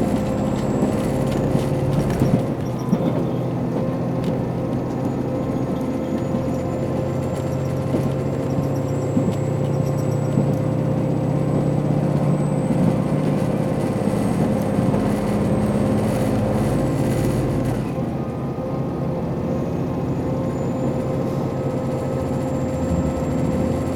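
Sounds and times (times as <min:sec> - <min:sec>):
diesel railcar engine drone: 0:00.0 - 0:23.9.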